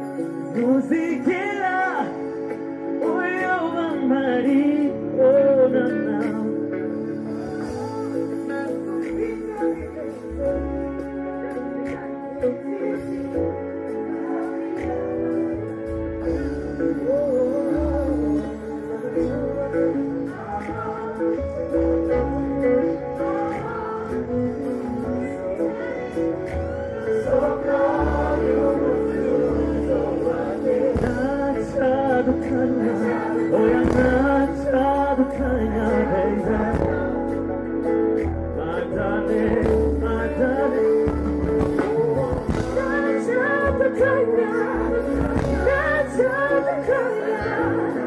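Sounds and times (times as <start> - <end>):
held keyboard or guitar chords: 0.0 - 48.0
person singing: 0.0 - 48.0
steady bass line: 2.4 - 48.0.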